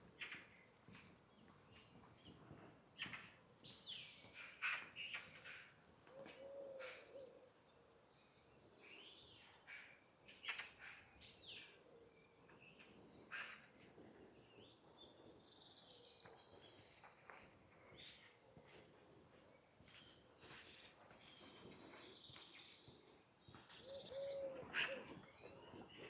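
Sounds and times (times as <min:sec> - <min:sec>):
songbirds chirping and twittering: 0:00.0 - 0:26.0.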